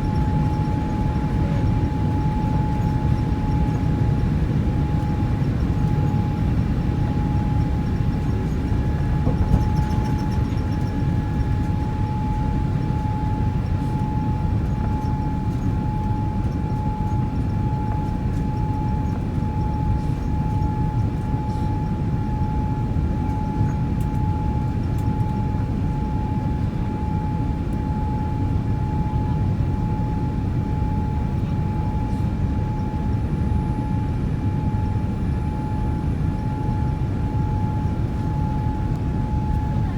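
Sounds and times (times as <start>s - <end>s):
jet engine deep rumble: 0.0s - 39.9s
jet engine whine: 0.0s - 39.9s.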